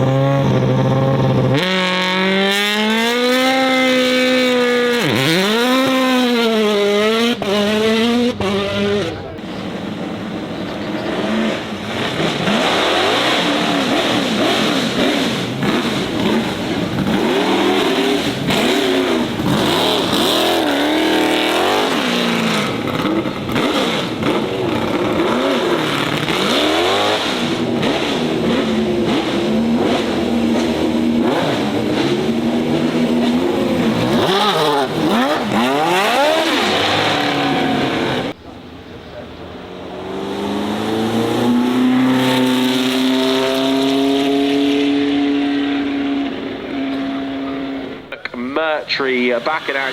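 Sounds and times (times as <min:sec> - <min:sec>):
car engine revving hard: 0:00.0 - 0:38.4, 0:39.6 - 0:49.9.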